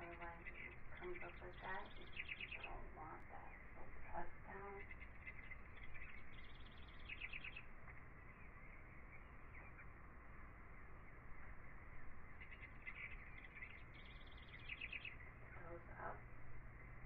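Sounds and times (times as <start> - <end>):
birds chirping: 0.0 - 17.0
low hum: 0.0 - 17.0.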